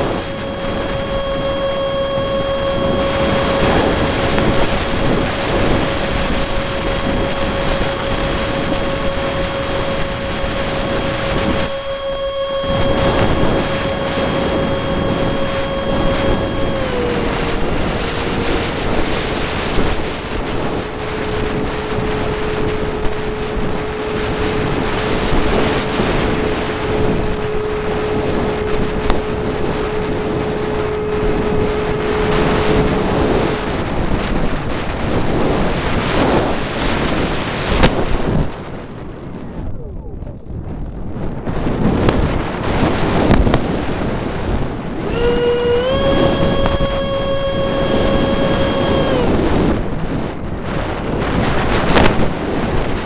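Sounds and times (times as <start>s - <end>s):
electric ducted fans whining: 0.0s - 53.0s
wind buffeting microphone: 0.0s - 53.0s.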